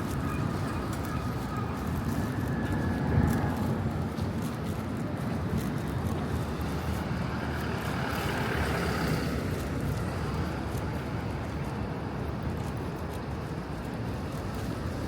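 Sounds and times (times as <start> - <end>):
rumble of street traffic: 0.0 - 15.0.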